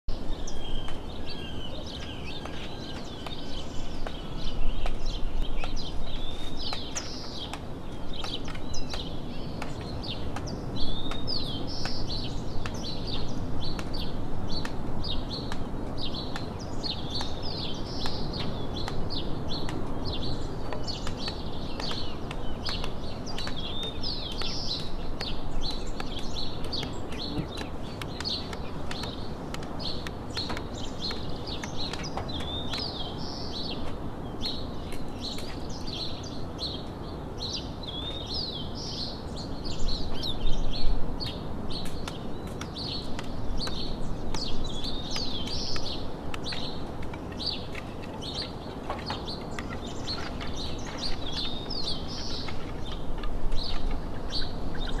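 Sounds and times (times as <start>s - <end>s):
birds chirping and singing: 0.1s - 55.0s
low outdoor hum: 0.1s - 55.0s.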